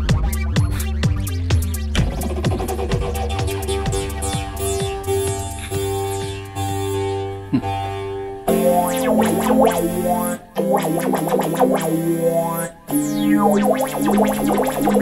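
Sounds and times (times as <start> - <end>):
synthesizer chords and quick notes: 0.0 - 15.0.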